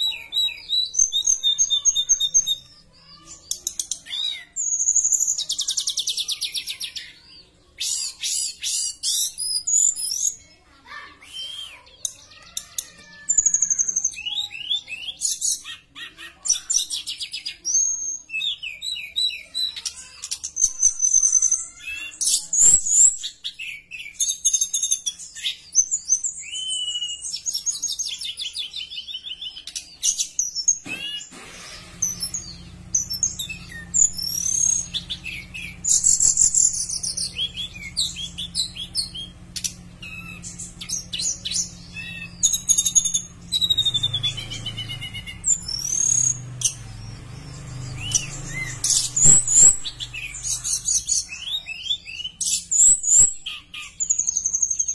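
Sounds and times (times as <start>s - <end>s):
bird singing: 0.0s - 54.9s.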